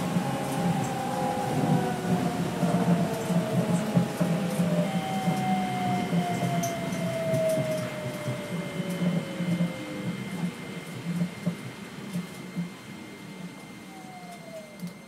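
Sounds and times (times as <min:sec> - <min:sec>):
train motor whine falling in pitch: 0:00.0 - 0:10.8, 0:13.6 - 0:15.0
train running rumble: 0:00.0 - 0:12.9.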